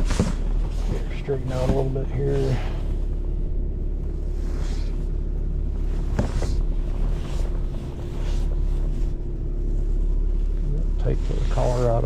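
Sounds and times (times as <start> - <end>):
truck engine running at low speed: 0.0 - 12.0.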